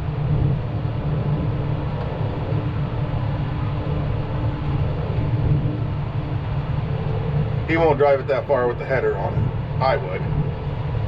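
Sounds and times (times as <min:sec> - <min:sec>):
farm vehicle engine droning: 0:00.0 - 0:11.0.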